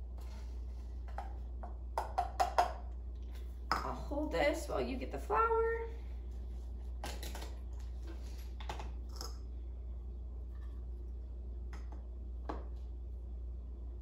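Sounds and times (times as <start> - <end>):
low hum: 2.7 - 14.0.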